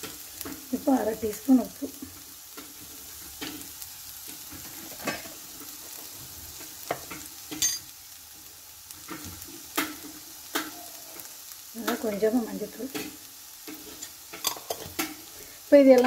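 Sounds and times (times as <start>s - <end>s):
faint sizzling in oil: 0.0s - 16.0s.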